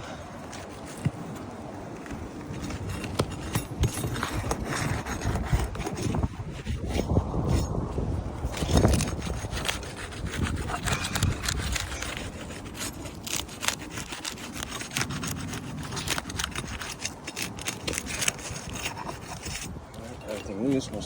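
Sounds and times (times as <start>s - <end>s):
tool scraping under shingles: 0.0s - 21.0s.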